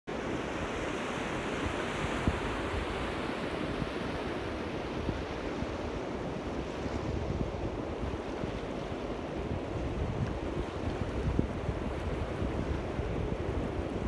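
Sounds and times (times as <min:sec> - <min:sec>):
small waves washing on beach: 0:00.1 - 0:14.0
wind rumbling on microphone: 0:00.2 - 0:14.0.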